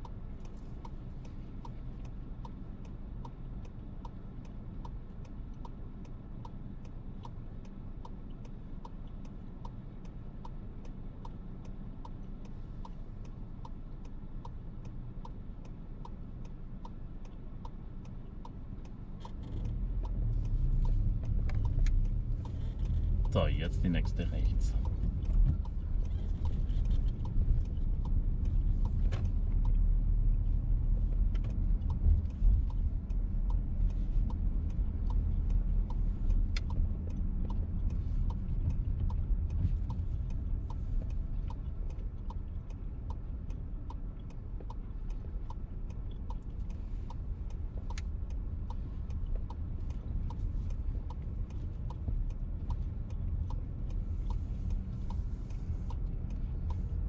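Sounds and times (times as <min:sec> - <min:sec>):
car interior rumble: 0:00.0 - 0:57.0
turn signal ticking: 0:00.0 - 0:57.0.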